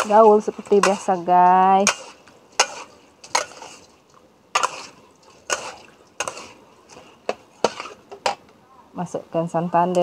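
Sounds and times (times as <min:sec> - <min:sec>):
metal ladle scraping wok: 0:00.0 - 0:08.4.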